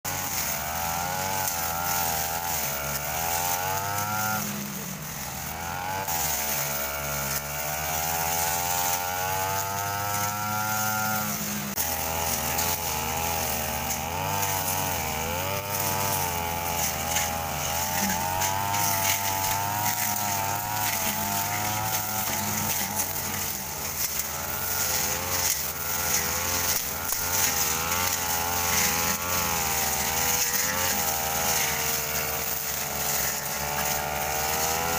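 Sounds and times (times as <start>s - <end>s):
brush cutter engines revving: 0.0s - 34.9s.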